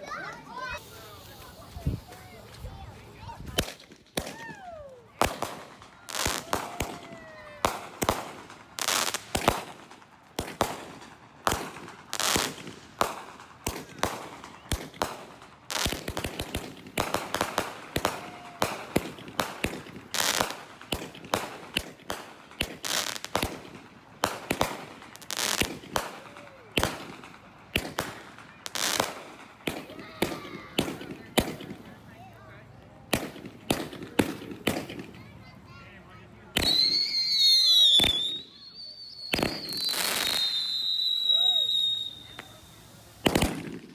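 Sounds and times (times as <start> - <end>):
fireworks bangs and crackles: 0.2 - 43.9.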